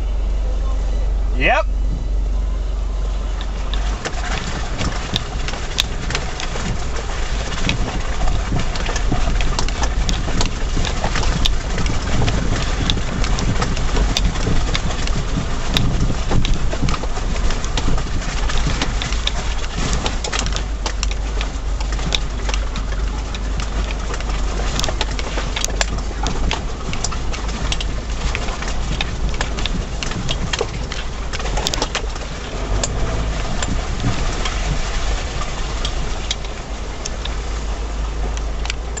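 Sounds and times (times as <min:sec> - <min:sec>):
engine and tyres rumbling: 0:00.0 - 0:39.0
vehicle clicks and rattles: 0:00.0 - 0:39.0.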